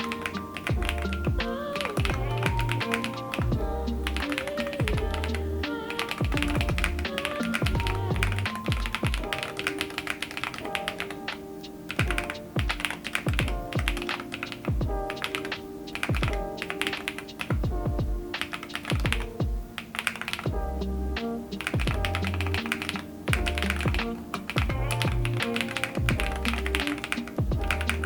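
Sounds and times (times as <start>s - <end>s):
mechanical keyboard typing: 0.0s - 17.7s, 18.4s - 20.5s, 21.6s - 28.0s
background music with steady beat: 0.0s - 28.0s.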